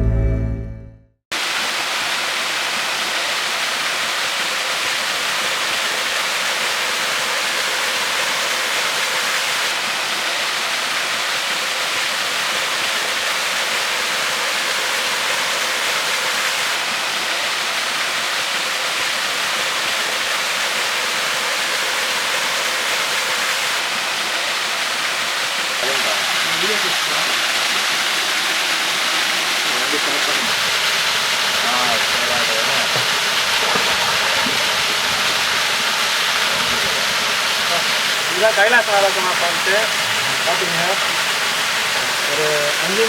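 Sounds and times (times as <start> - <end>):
waterfall rushing: 1.3 - 43.0.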